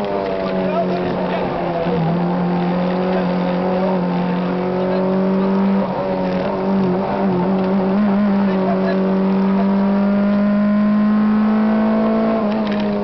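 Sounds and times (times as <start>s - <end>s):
car engine running hard: 0.0s - 13.0s.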